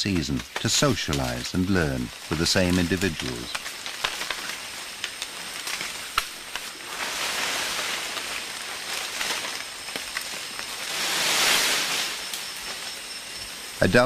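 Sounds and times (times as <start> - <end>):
rainforest hiss: 0.0 - 14.0.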